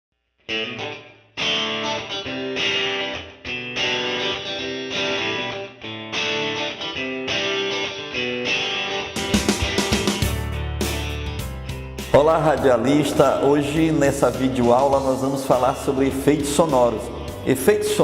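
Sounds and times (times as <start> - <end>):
instrumental music with held notes: 0.4 - 18.0.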